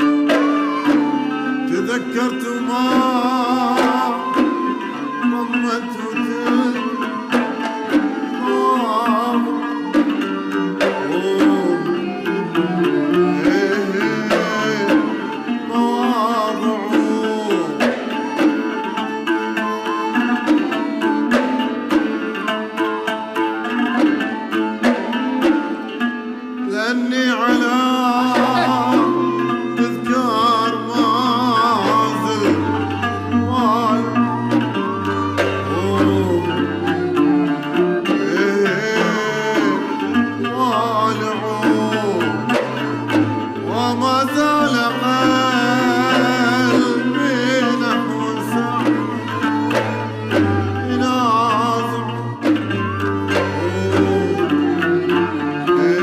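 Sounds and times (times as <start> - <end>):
person singing: 0.0 - 21.6, 26.6 - 56.0
traditional ensemble playing: 0.0 - 56.0.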